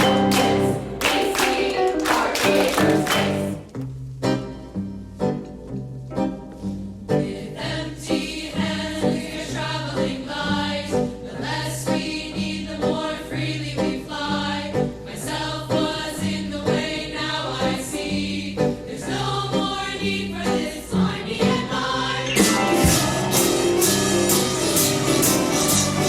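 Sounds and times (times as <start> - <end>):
choir singing: 0.0 - 3.7, 7.2 - 26.0
instrumental accompaniment with bass: 0.0 - 26.0.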